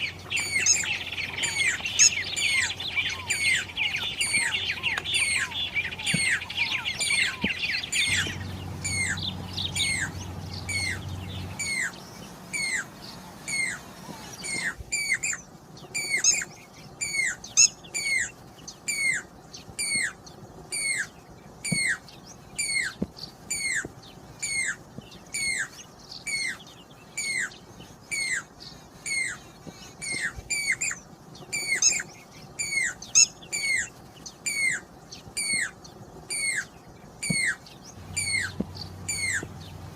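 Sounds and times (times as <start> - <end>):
cuckoo whistled calls: 0.0 - 39.5.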